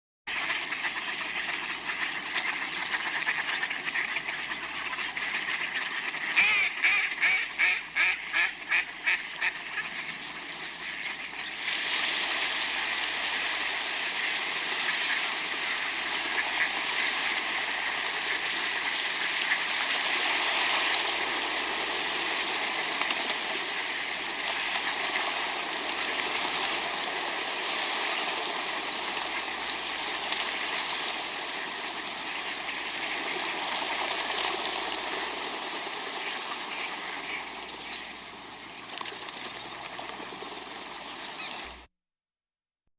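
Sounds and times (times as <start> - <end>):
ducks quacking: 0.3 - 11.8, 13.8 - 22.7, 23.4 - 40.4
wings flapping on water: 0.3 - 41.9.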